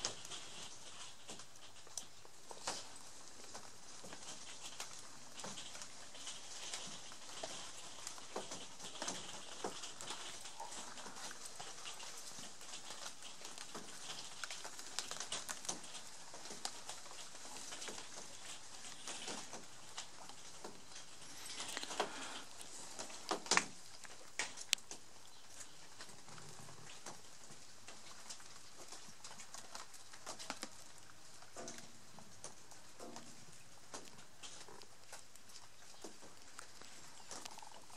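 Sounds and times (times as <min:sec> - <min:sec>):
fern fronds rustling: 0:00.0 - 0:37.9
soft hiss: 0:00.0 - 0:37.9.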